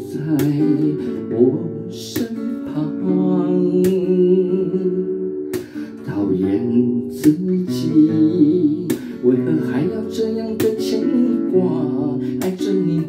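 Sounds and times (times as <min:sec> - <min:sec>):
acoustic guitar strumming: 0:00.0 - 0:13.0
man singing pop ballad: 0:00.0 - 0:13.0.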